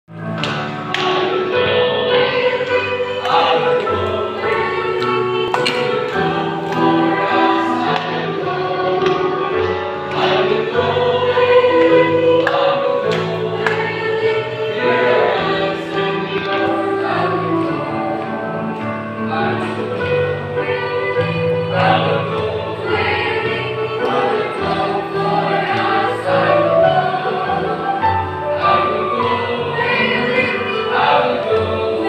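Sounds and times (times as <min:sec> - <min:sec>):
choir singing: 0:00.1 - 0:32.0.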